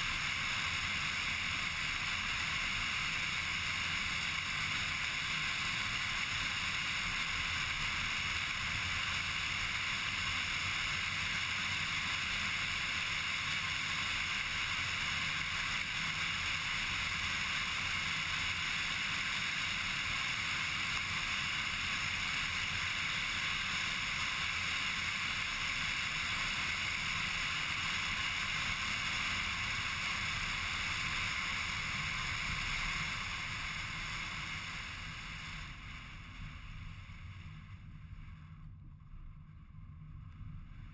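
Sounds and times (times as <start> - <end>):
car driving at speed: 0.0 - 40.9.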